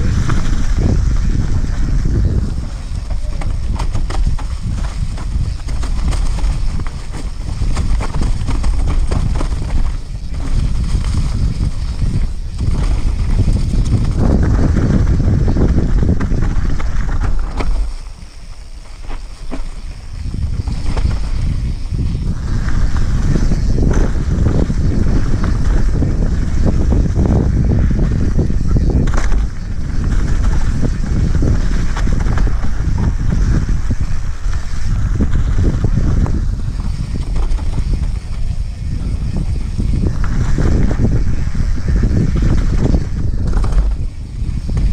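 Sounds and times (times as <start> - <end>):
bike rattling: 0.0 - 44.9
tyres on rough dirt trail: 0.0 - 44.9
wind buffeting microphone: 0.0 - 44.9.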